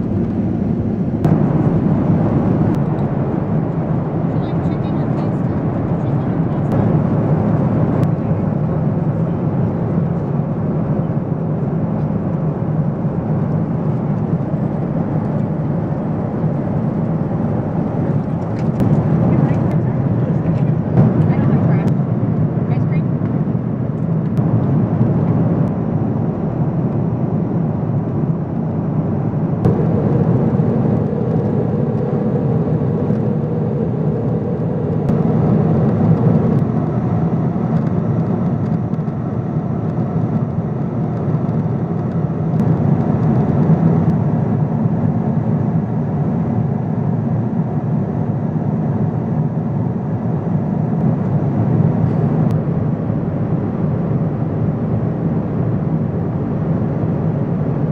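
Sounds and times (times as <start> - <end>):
airplane cabin airflow and engines: 0.0 - 57.9.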